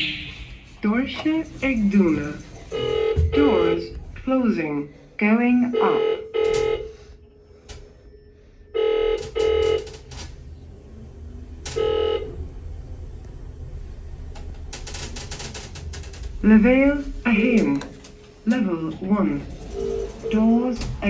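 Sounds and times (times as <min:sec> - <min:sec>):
lift hum: 0:00.0 - 0:21.0.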